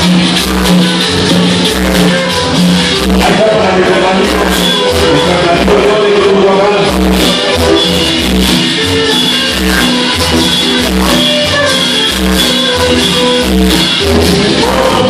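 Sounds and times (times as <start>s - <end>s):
cumbia music over sound system: 0.0s - 15.0s.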